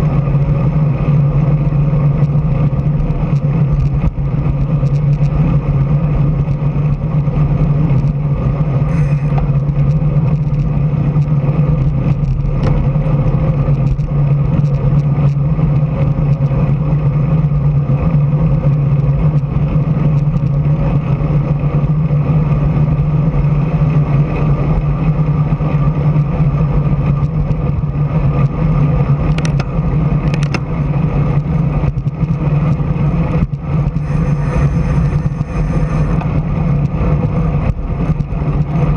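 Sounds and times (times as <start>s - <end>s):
low rumble: 0.0s - 38.9s
road noise: 0.0s - 38.9s
wind rush on microphone: 0.0s - 38.9s.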